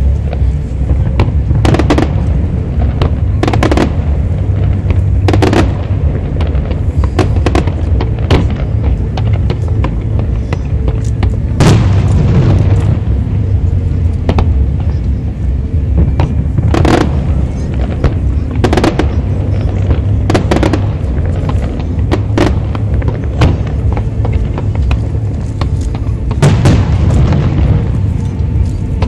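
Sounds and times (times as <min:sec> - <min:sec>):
continuous low rumble: 0:00.0 - 0:29.0
fireworks booms and bangs: 0:00.0 - 0:29.0.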